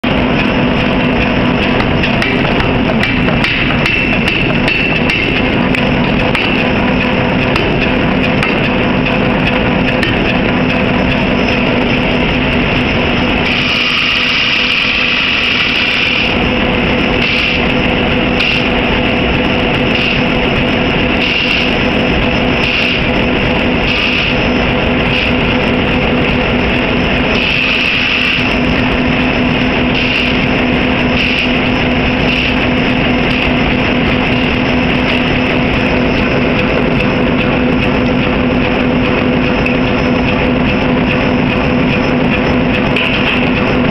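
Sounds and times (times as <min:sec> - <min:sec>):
harsh high machine noise: 0:00.0 - 0:43.9
power hammer and machinery hum: 0:00.0 - 0:43.9.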